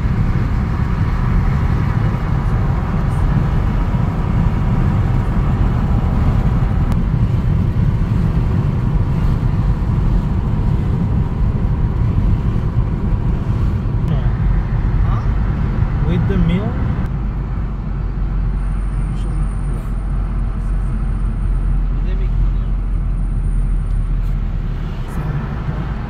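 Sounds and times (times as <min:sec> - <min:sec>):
car road rumble: 0:00.0 - 0:26.0.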